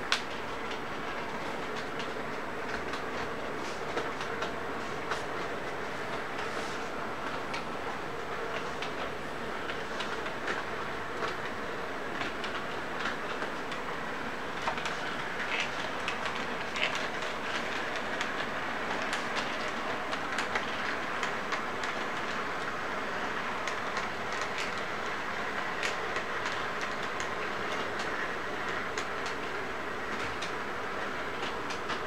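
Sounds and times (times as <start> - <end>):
model train whir and rumble: 0.0 - 32.0.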